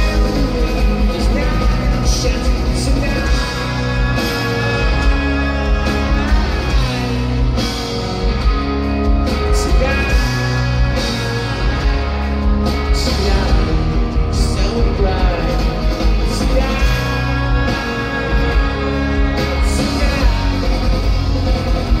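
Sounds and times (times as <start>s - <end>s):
person singing: 0.0s - 7.6s, 9.4s - 11.2s, 12.8s - 21.2s
rock band playing live: 0.0s - 22.0s.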